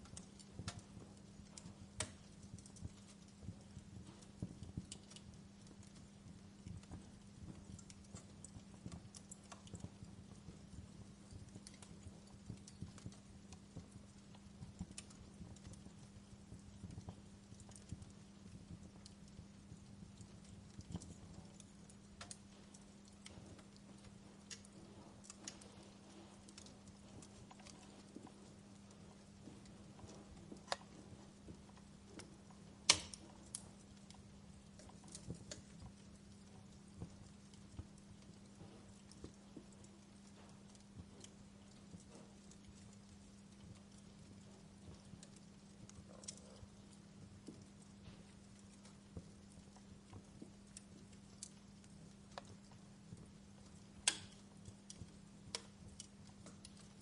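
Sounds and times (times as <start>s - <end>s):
low steady hum: 0.0s - 57.0s
wood fire crackling: 0.0s - 57.0s.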